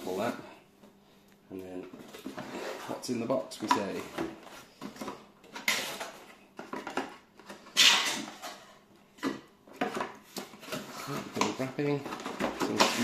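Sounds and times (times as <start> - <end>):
cardboard rustling and scraping: 1.6 - 8.8, 9.8 - 13.0.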